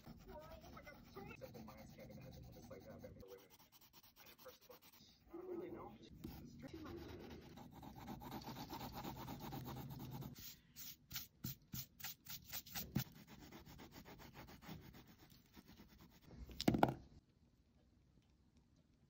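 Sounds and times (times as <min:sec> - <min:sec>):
colored pencil shading on paper: 0:00.0 - 0:16.3.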